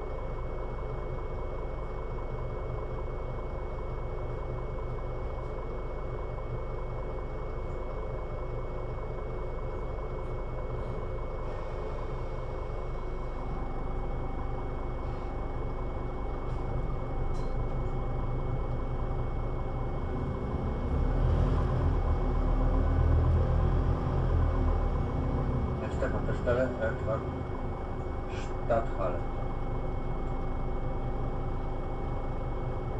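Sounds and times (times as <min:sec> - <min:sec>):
bus engine running: 0:00.0 - 0:32.9.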